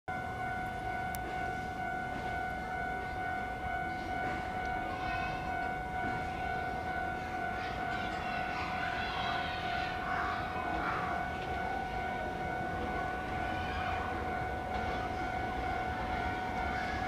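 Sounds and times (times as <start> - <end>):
level-crossing warning bell ringing: 0.1 - 17.0.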